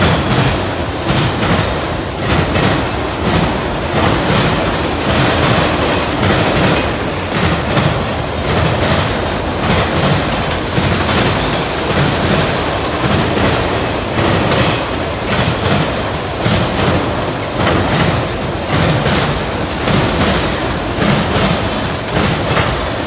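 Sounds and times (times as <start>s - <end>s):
freight train cars rumbling: 0.0s - 23.0s
wheels clacking over rail joints: 0.0s - 23.0s.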